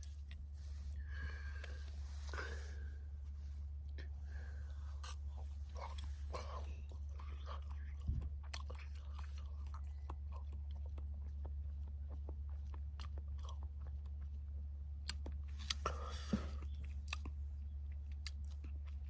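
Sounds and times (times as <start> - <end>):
person chewing food: 0.0 - 19.0
steady low hum: 0.0 - 19.0.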